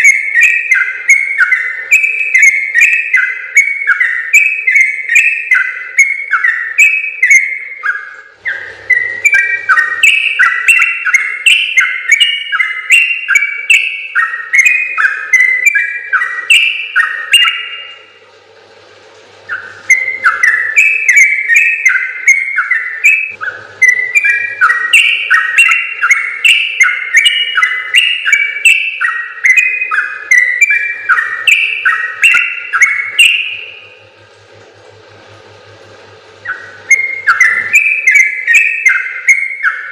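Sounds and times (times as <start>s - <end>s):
bird singing whistled notes: 0.0s - 18.1s, 19.5s - 33.9s, 36.4s - 39.9s.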